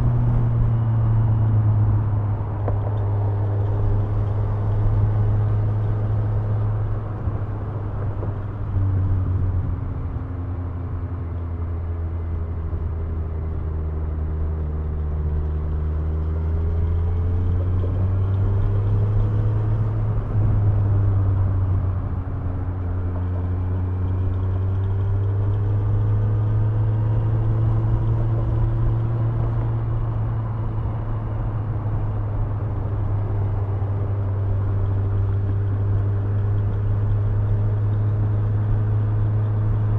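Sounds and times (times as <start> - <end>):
motorcycle engine at road speed: 0.0 - 39.9.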